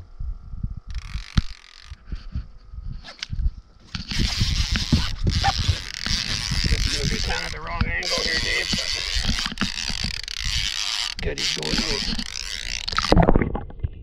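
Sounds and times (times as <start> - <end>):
fishing rod and reel handling: 0.9 - 13.3.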